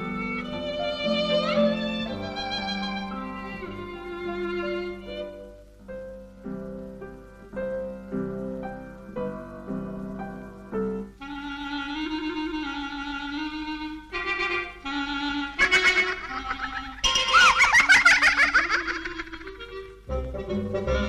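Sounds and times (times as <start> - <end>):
violin film music: 0.0 - 21.0.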